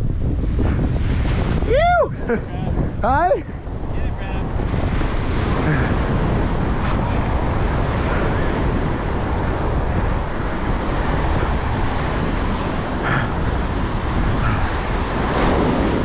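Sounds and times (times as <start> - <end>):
wind buffeting microphone: 0.0 - 16.0
surf breaking on beach: 0.2 - 16.0.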